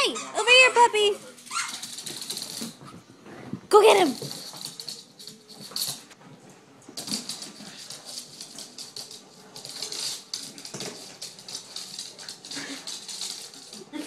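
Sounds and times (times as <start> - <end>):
dog claws skittering on wooden floor: 1.3 - 6.1, 7.0 - 14.0.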